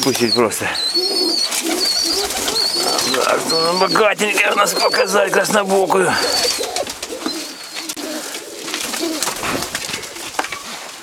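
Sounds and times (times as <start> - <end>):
pigeons cooing: 0.0 - 10.8.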